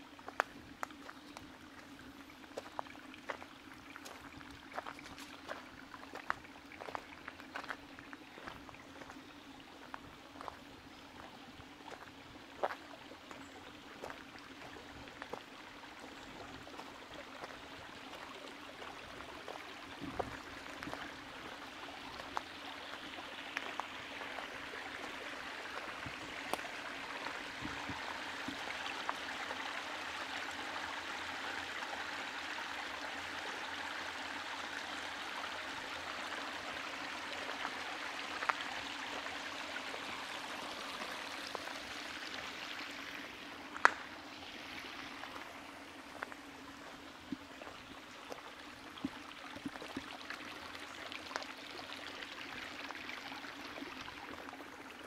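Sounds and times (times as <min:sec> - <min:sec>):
woodland stream running: 0:00.0 - 0:55.0.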